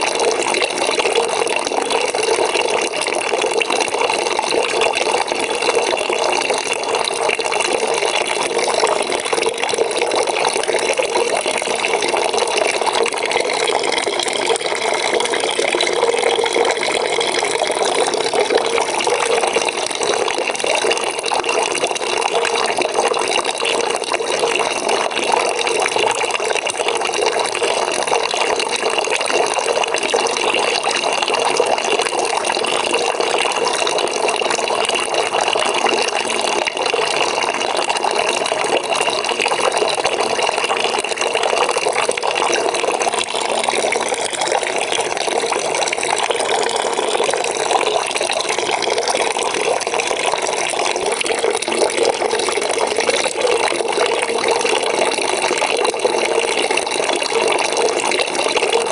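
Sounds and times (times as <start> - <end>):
tap water running into bucket: 0.0 - 58.9.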